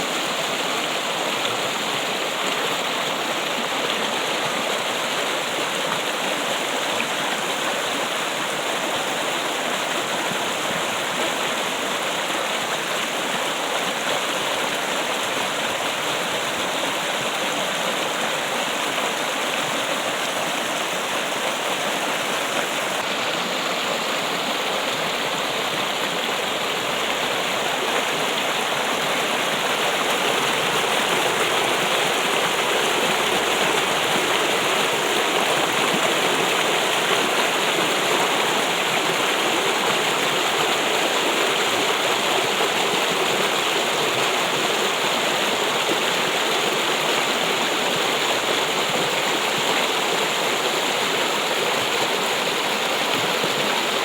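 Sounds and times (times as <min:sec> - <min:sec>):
trickling and rushing water: 0:00.0 - 0:54.0.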